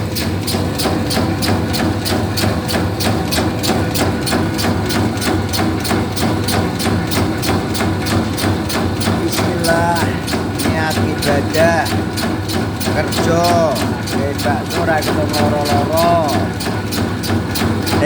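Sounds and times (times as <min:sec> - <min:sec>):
machine clacking: 0:00.0 - 0:18.0
motor hum: 0:00.0 - 0:18.0.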